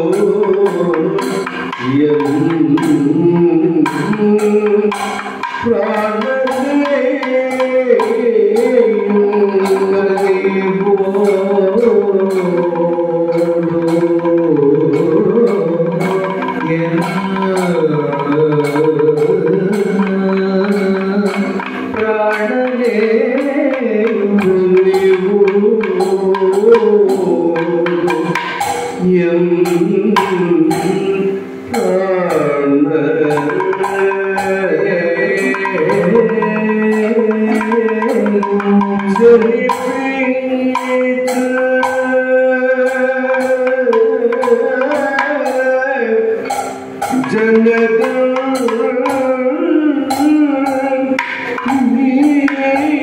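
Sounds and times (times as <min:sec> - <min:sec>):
drums: 0:00.0 - 0:53.0
man singing: 0:00.0 - 0:53.0.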